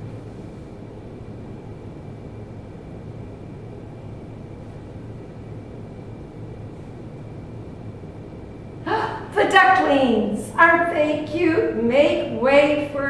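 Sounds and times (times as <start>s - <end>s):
faint high whine: 0.0s - 13.0s
low room hum: 0.0s - 13.0s.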